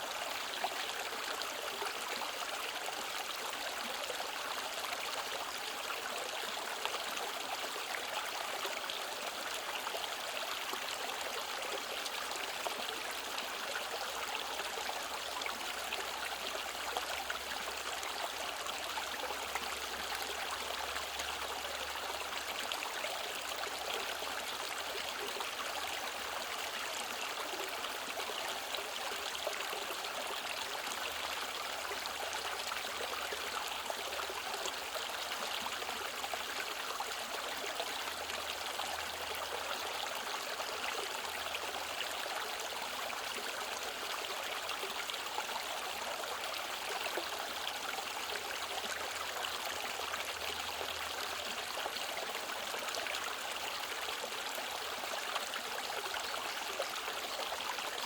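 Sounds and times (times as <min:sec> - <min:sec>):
stream rushing and trickling: 0:00.0 - 0:58.0.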